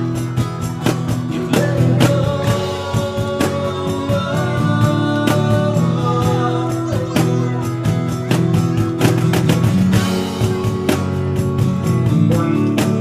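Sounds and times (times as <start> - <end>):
steady drum beat: 0.0 - 13.0
strummed guitar: 0.0 - 13.0.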